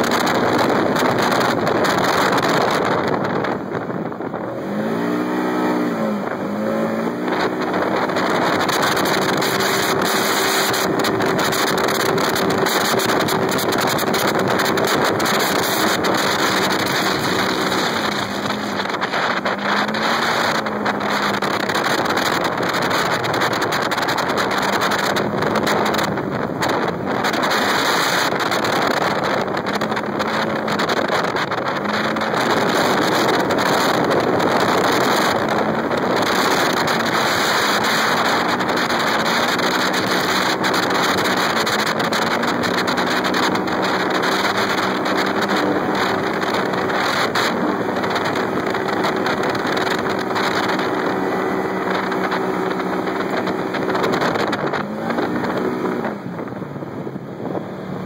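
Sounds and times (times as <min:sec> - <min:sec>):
vehicle engine under load: 0:00.0 - 0:58.0
wind noise on microphone: 0:00.0 - 0:58.0.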